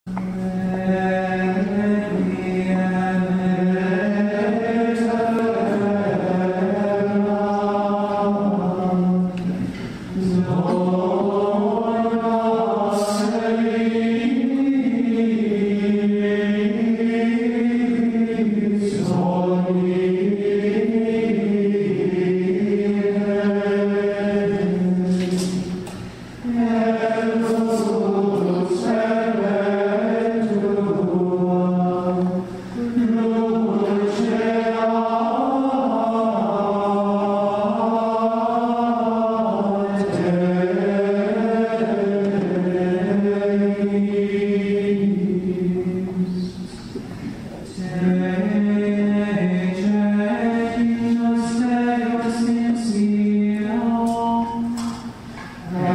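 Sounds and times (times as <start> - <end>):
male voices chanting in unison: 0.2 - 55.9.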